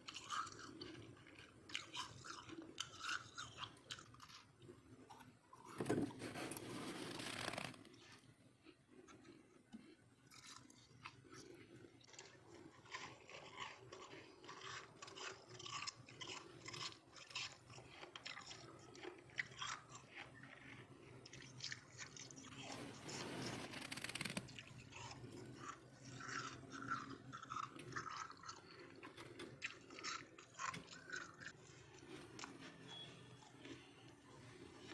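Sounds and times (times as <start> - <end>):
frost being chewed: 0.0 - 34.9.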